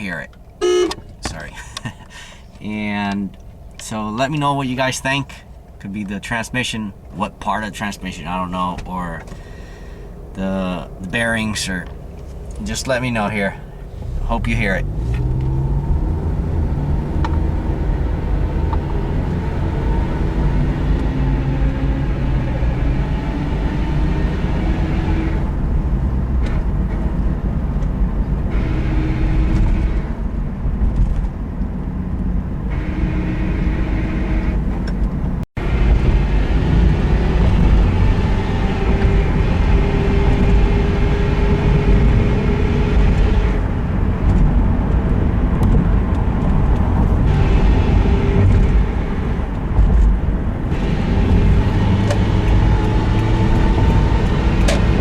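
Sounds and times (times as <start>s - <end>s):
road and drivetrain rumble: 0.0s - 55.0s.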